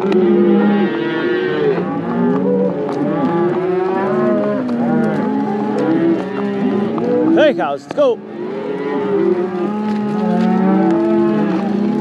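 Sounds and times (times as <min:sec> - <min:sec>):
cattle mooing: 0:00.0 - 0:12.0.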